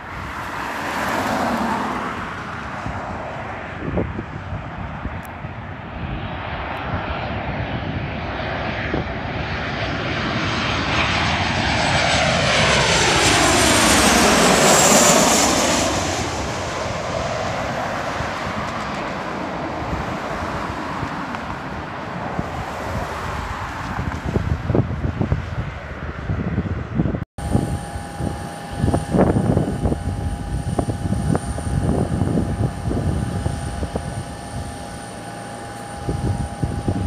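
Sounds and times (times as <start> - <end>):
high jet whine: 0.0 - 37.0
jet engines passing overhead: 0.0 - 37.0.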